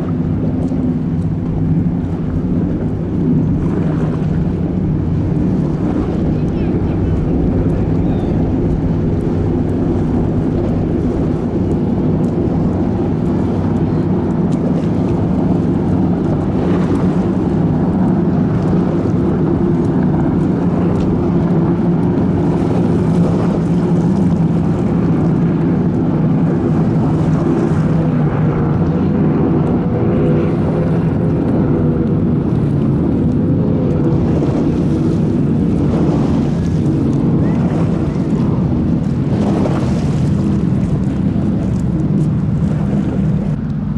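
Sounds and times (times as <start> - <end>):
powerboat engines droning: 0.0 - 43.9.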